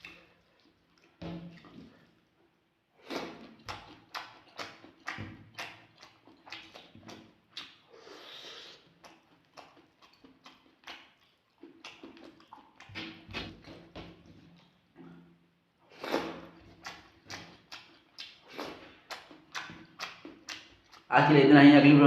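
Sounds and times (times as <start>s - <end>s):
wet chewing and lip smacks: 0.0s - 2.4s, 3.0s - 15.3s, 15.9s - 21.1s.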